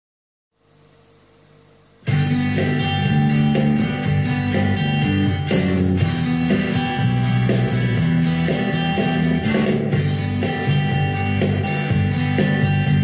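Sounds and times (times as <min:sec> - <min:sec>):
electric guitar playing: 0:02.0 - 0:13.0.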